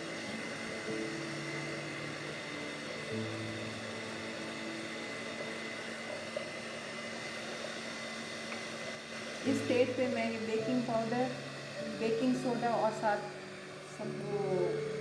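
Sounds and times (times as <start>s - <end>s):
electric hand mixer running: 0.0s - 15.0s.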